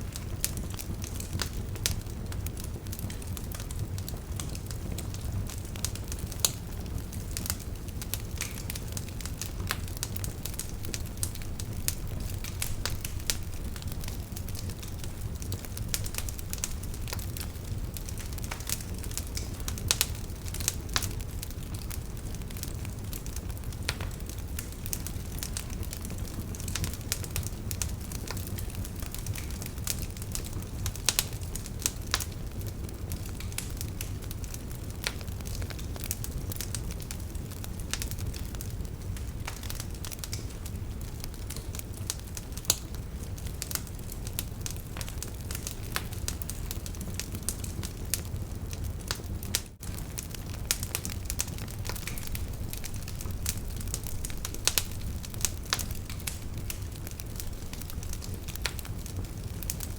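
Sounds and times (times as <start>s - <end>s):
fire crackling and popping: 0.0s - 59.9s
low rumble of flame: 0.0s - 59.9s.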